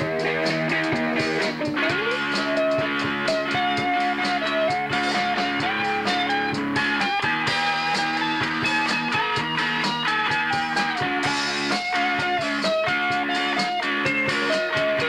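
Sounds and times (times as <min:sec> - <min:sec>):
drum kit steady beat: 0:00.0 - 0:15.0
electric guitars: 0:00.0 - 0:15.0.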